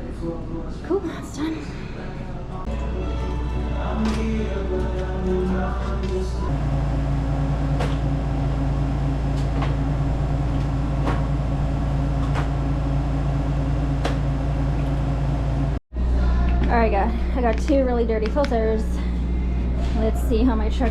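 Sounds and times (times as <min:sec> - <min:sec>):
hvac fan humming: 0:00.0 - 0:20.9.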